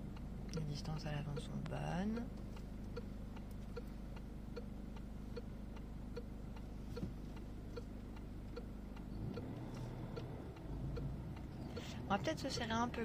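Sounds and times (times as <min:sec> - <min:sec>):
low steady hum: 0:00.0 - 0:13.0
turn signal ticking: 0:00.0 - 0:13.0.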